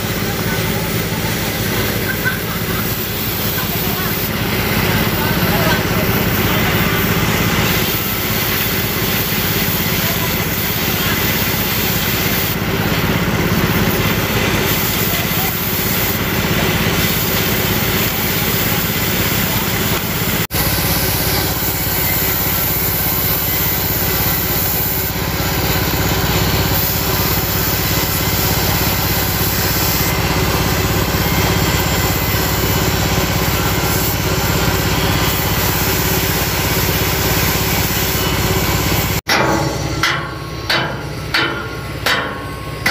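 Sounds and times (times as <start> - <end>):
cutting torch hissing: 0.0 - 40.1.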